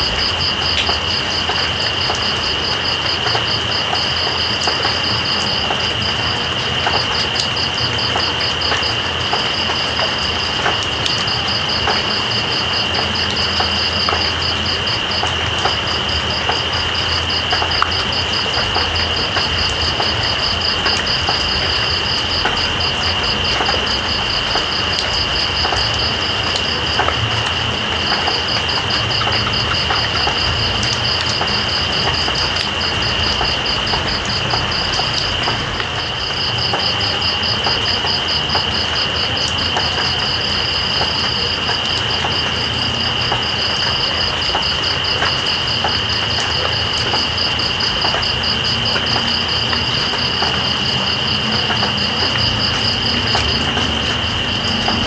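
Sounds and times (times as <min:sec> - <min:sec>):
raindrops pattering: 0:00.0 - 0:55.0.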